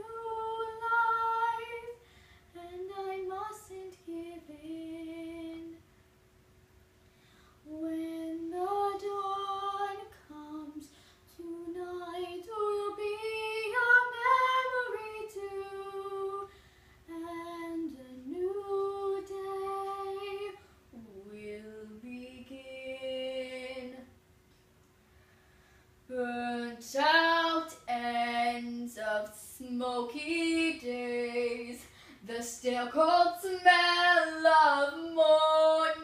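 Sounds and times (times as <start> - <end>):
woman singing unaccompanied: 0.0 - 2.0, 2.6 - 5.8, 7.7 - 16.5, 17.1 - 24.2, 26.1 - 36.0.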